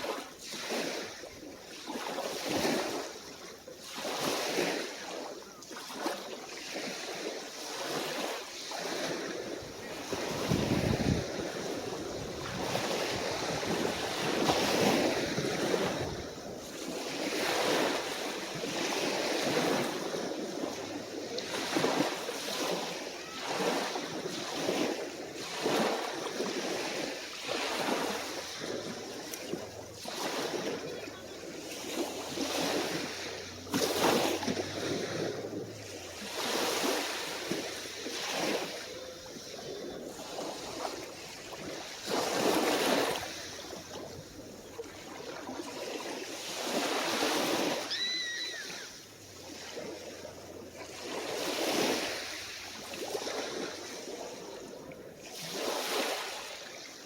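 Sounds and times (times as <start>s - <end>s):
small waves washing onto shore: 0.0s - 57.0s.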